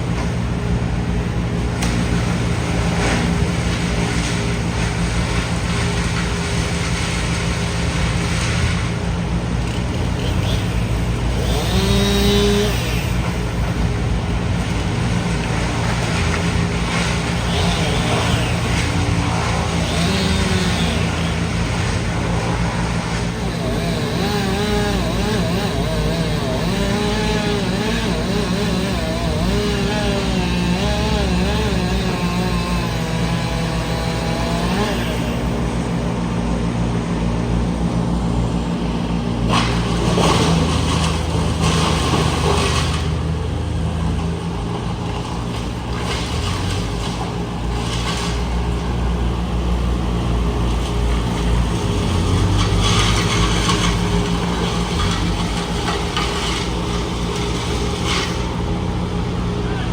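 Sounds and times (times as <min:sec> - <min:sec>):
heavy machinery engine running: 0:00.0 - 0:59.9.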